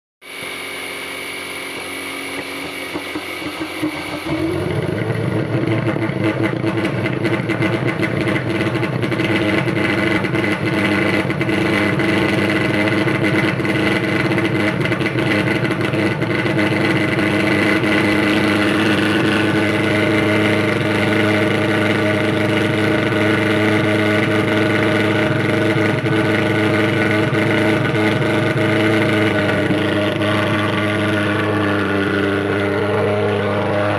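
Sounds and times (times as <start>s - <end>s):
fogging machine engine drone: 0.2s - 33.9s.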